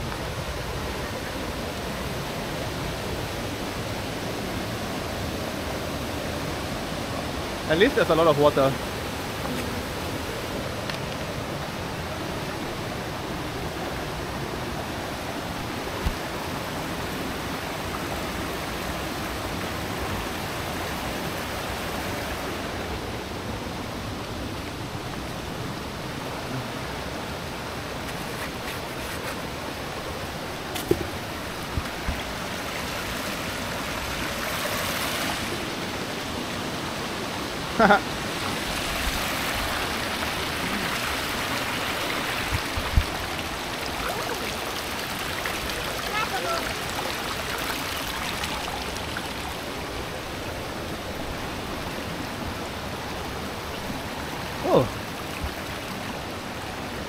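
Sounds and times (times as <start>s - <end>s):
waterfall and stream rushing: 0.0s - 57.0s.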